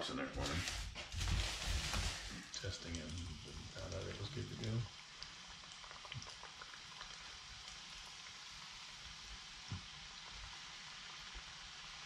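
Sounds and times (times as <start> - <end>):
frying grease crackling: 0.4 - 12.0.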